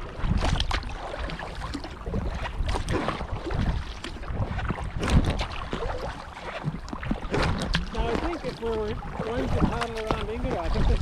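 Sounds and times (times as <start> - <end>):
paddles splashing in water: 0.0 - 11.0
wind rumbling on microphone: 0.0 - 11.0.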